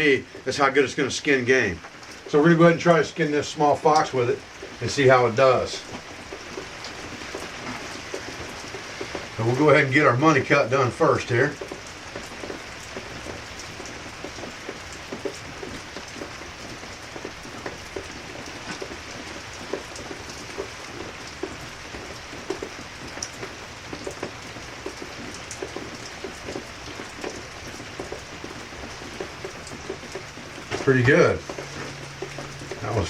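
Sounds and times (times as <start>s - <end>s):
raindrop ticks: 0.0s - 33.0s
steady pouring rain: 0.0s - 33.0s.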